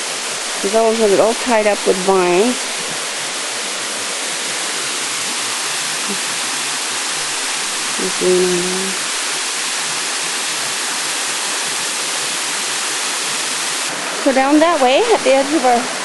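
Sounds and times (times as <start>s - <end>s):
river and waterfall roaring: 0.0s - 16.0s.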